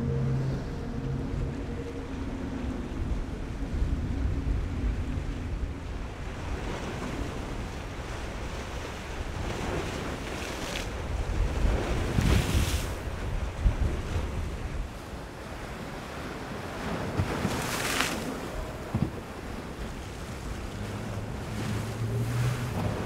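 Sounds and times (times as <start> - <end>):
outboard engine hum: 0.0 - 23.0
waves and spray: 0.0 - 23.0
wind rumbling on microphone: 0.0 - 23.0.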